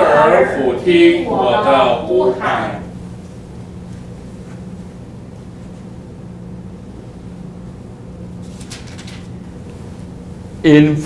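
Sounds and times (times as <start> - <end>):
low mains hum: 0.0 - 11.0.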